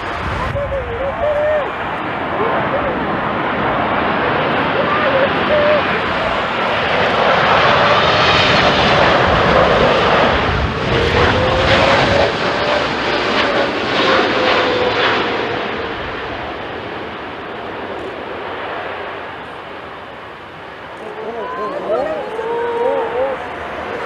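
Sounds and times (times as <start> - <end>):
jet airliner engines passing: 0.0 - 24.0
jet engine whine: 0.0 - 24.0.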